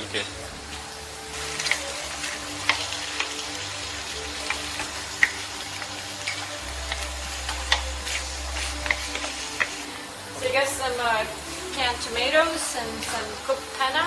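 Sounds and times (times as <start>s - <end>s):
sauce sizzling in a frying pan: 0.0s - 14.0s.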